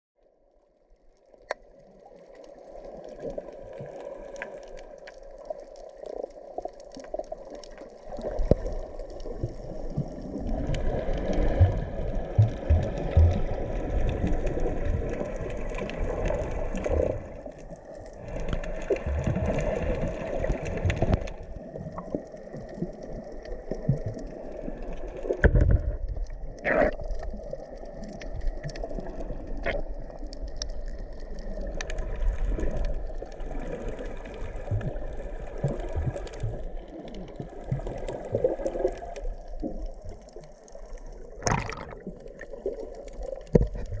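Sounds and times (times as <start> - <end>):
underwater bubbling and gurgling: 0.2 - 44.0.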